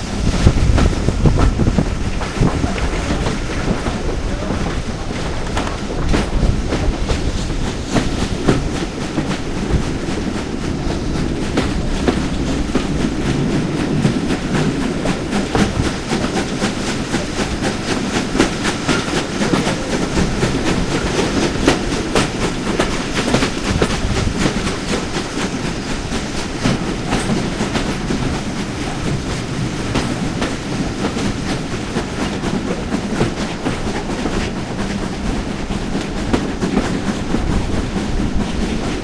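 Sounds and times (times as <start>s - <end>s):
train rumble: 0.0s - 39.0s
train wheels clicking over rail joints: 0.0s - 39.0s.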